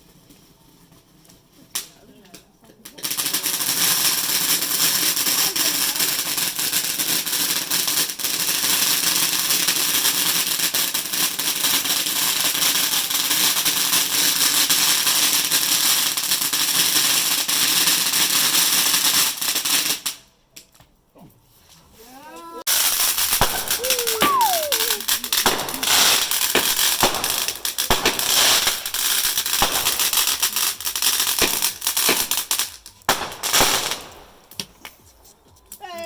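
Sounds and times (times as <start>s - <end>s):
firework crackling hiss: 0.0s - 20.3s, 22.7s - 36.0s.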